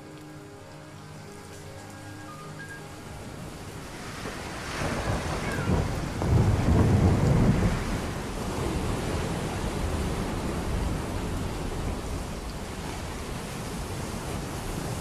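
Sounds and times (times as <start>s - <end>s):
rushing water with deep rumble: 0.0s - 15.0s.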